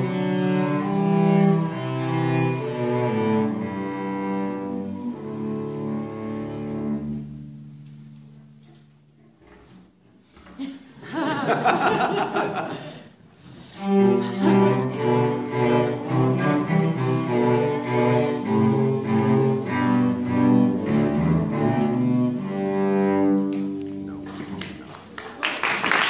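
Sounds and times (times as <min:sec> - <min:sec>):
cellos playing bowed notes: 0:00.0 - 0:09.8, 0:13.4 - 0:24.6.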